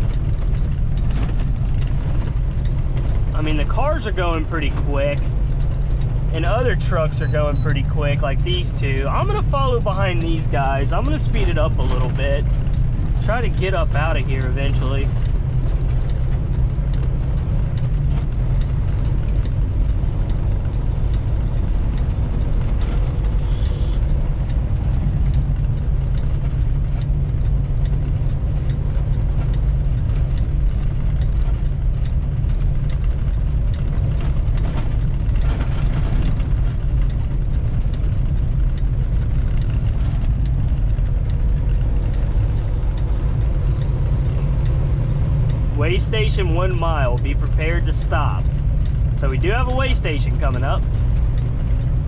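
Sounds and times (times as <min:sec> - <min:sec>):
diesel engine rumble: 0:00.0 - 0:52.0
road noise: 0:00.0 - 0:52.0.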